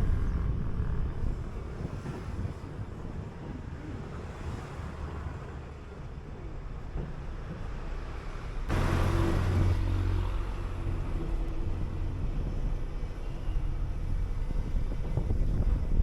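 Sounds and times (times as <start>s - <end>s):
bus engine: 0.0s - 16.0s
road noise: 0.0s - 16.0s.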